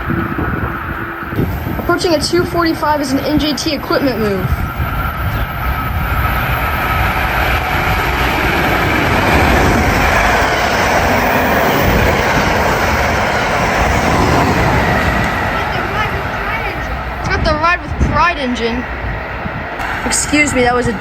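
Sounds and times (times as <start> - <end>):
train passing close by: 0.0 - 21.0.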